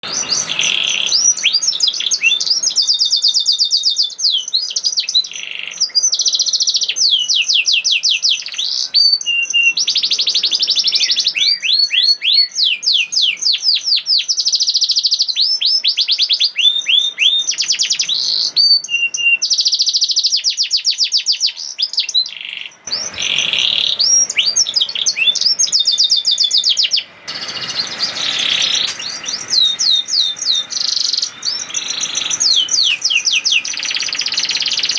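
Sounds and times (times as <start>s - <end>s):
canary trilling song: 0.0s - 34.9s.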